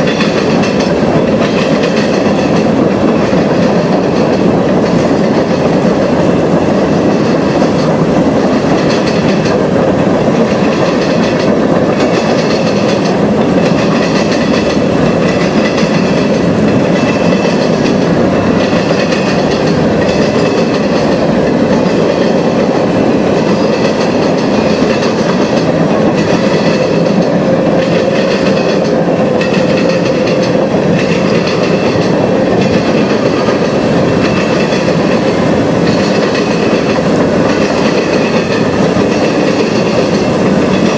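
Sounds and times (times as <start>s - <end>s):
train cars rolling past: 0.0s - 40.9s
wheels clicking over rail joints: 0.0s - 40.9s.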